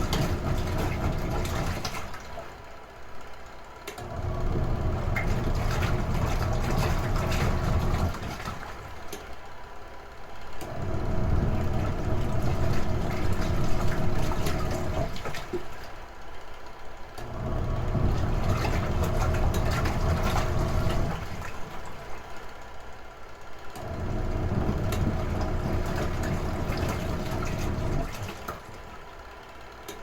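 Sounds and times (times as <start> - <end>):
washing machine agitating: 0.0 - 2.9, 3.8 - 9.6, 10.4 - 22.9, 23.5 - 30.0
washing machine motor hum: 0.0 - 30.0.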